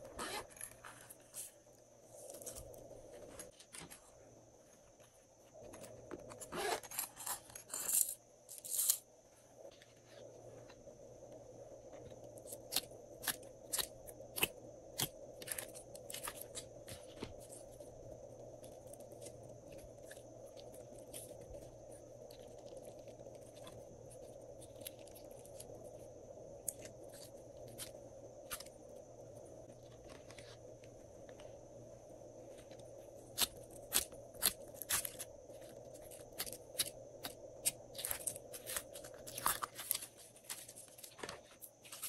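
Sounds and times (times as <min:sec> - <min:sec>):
faint hum: 0:00.0 - 0:42.0.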